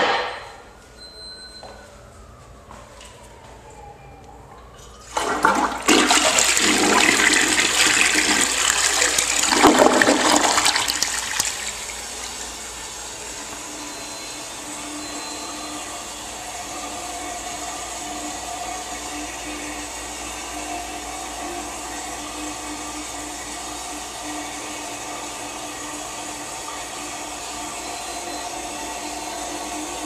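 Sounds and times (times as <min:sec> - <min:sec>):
toilet flushing: 0:05.0 - 0:30.0.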